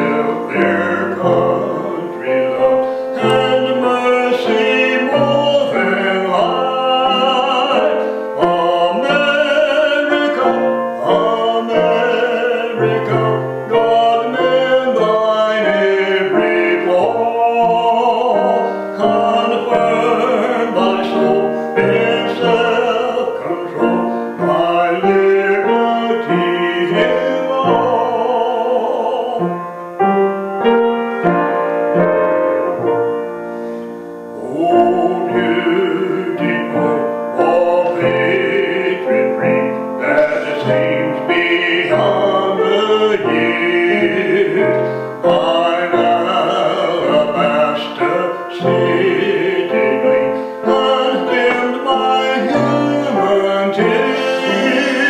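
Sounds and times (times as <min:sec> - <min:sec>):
man singing a hymn: 0:00.0 - 0:55.0
piano accompaniment: 0:00.0 - 0:55.0.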